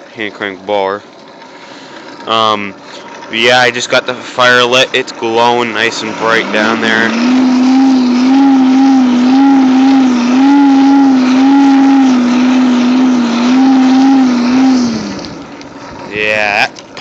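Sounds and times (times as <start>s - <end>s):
hand-crank forge blower whine: 0.0s - 17.0s.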